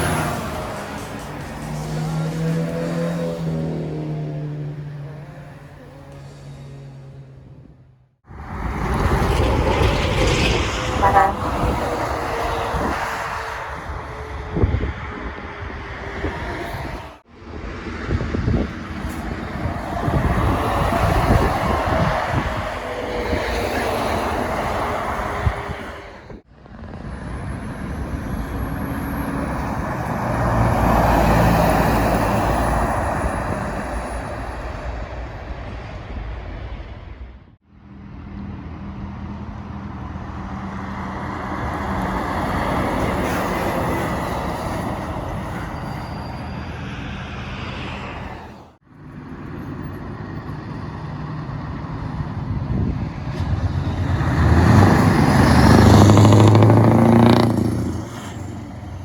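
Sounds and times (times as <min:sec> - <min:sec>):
heavy trucks driving past: 0:00.0 - 0:59.0.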